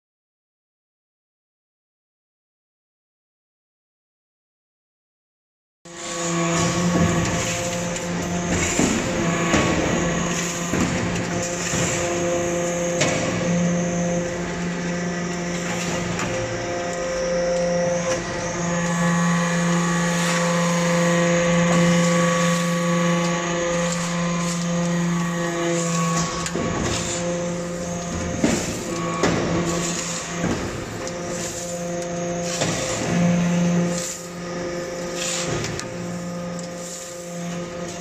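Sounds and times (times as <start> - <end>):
machine hum: 5.9 - 38.0.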